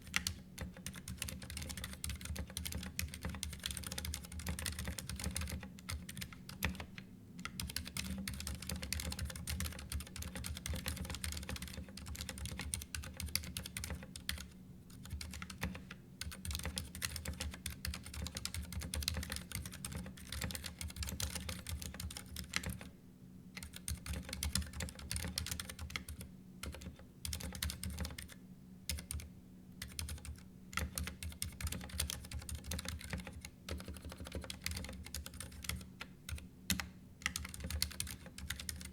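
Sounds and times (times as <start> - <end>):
mechanical keyboard typing: 0.0 - 22.9, 23.6 - 38.9.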